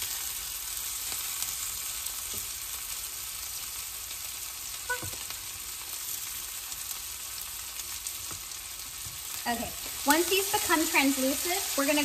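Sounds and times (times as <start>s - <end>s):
onions sizzling in a skillet: 0.0s - 12.0s.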